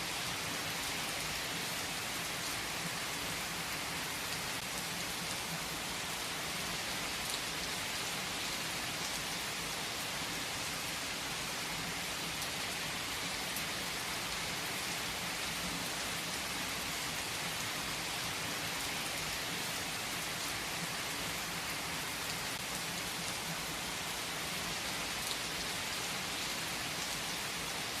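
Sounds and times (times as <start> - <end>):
steady rain on a surface: 0.0 - 28.0.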